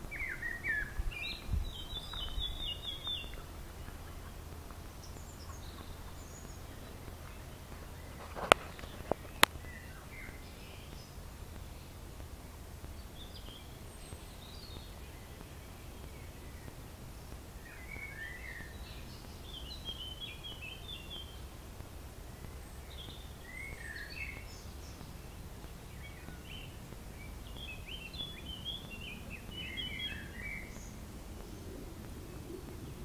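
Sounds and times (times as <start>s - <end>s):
low background rumble: 0.0s - 33.0s
songbird singing: 0.0s - 33.0s.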